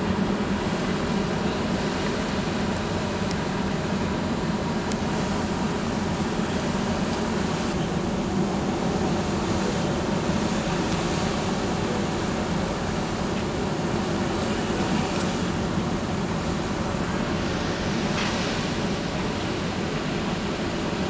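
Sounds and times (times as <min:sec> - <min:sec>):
ship engines and fans droning: 0:00.0 - 0:21.0.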